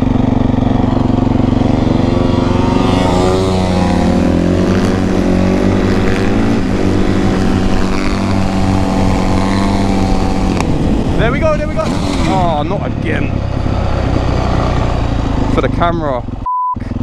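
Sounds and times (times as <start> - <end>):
dirt bike engine revving: 0.0 - 17.0
motorcycle engine idling: 0.0 - 17.0.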